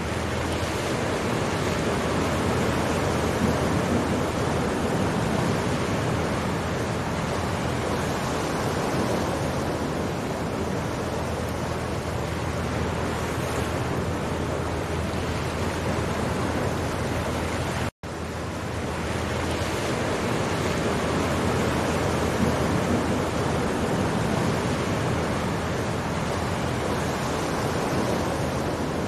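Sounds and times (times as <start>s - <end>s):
choppy sea waves: 0.0s - 29.0s
wind: 0.0s - 29.0s.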